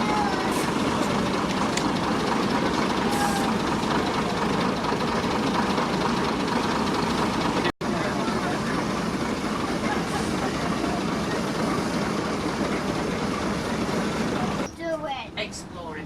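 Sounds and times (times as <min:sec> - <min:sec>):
train rumbling: 0:00.0 - 0:14.7.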